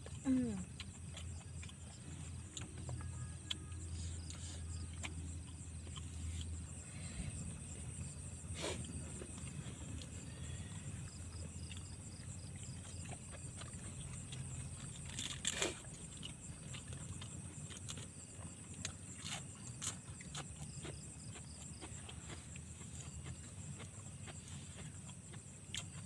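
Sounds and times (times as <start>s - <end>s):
insects trilling: 0.0s - 26.0s
low steady hum: 0.0s - 26.0s
pulsing insect call: 0.0s - 26.0s.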